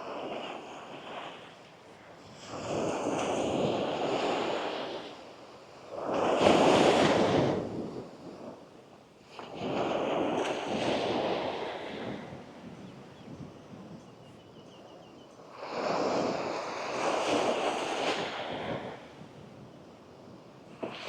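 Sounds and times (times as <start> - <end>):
small waves breaking on shore: 0.0 - 12.8, 15.4 - 19.4, 20.1 - 21.0.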